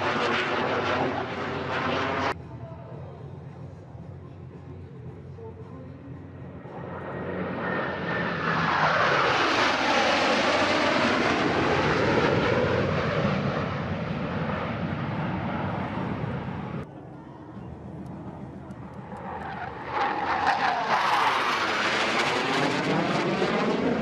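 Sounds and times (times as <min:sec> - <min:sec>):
jet flyby: 0:00.0 - 0:02.4, 0:06.0 - 0:24.0.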